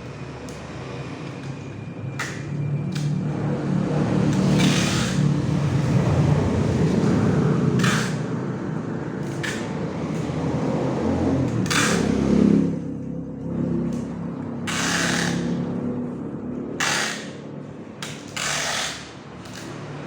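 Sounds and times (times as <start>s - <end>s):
low mechanical rumble: 0.0s - 20.0s.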